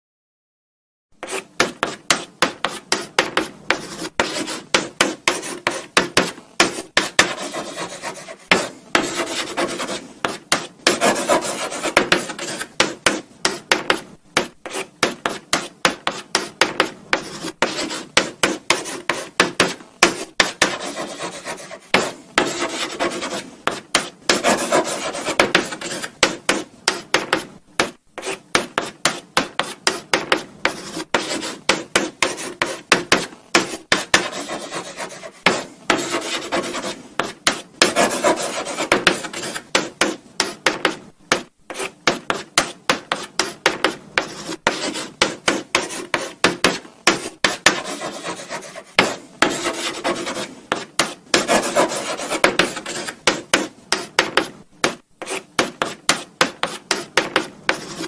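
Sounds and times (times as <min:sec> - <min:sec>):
chalk writing on blackboard: 0:01.2 - 0:58.0.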